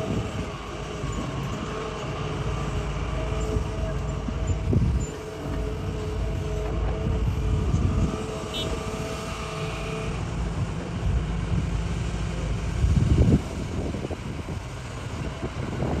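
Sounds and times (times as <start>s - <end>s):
diesel engine rumbling under load: 0.0s - 16.0s
steady whine: 0.0s - 16.0s.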